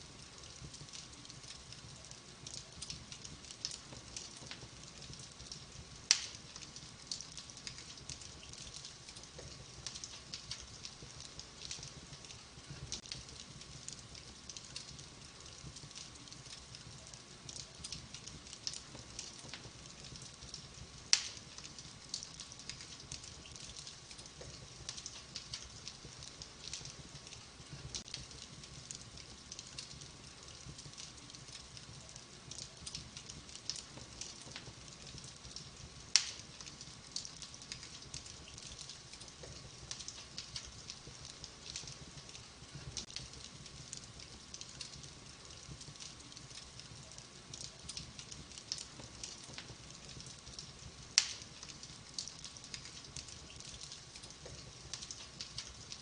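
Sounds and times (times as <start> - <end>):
wood fire crackling: 0.0 - 56.0
loud fire pops: 0.3 - 55.9.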